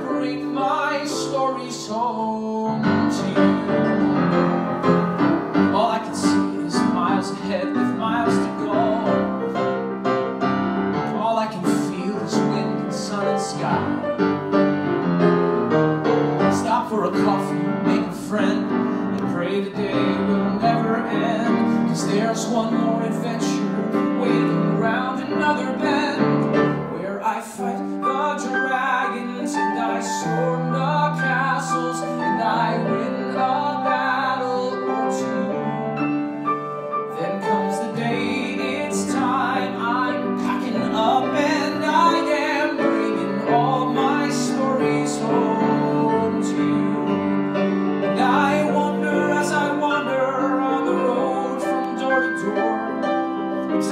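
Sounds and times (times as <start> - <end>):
man singing: 0.0 - 14.5, 16.1 - 53.9
live piano accompaniment: 0.0 - 53.9.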